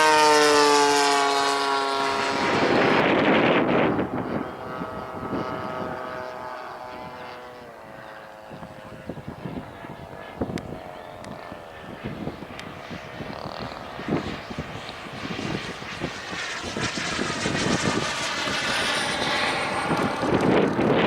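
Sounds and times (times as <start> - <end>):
model airplane engine flying past: 0.0 - 21.0
wind buffeting microphone: 0.0 - 21.0.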